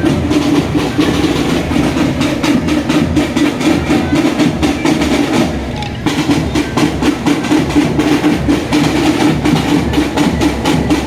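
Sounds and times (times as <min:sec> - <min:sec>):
marching drum band playing: 0:00.0 - 0:11.0.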